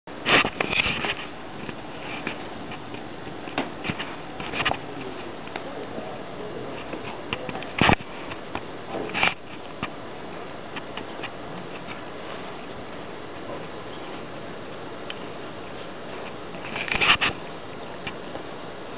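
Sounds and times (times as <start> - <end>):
steady hiss: 0.1 - 18.9.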